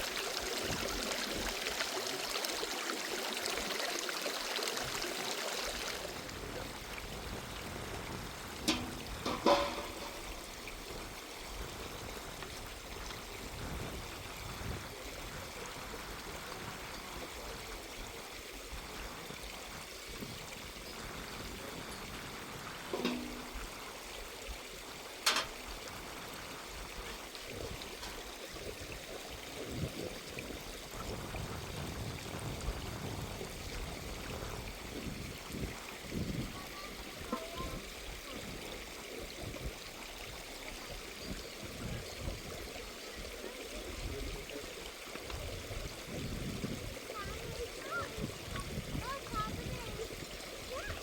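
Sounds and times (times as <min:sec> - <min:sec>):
water running steadily: 0:00.0 - 0:51.0.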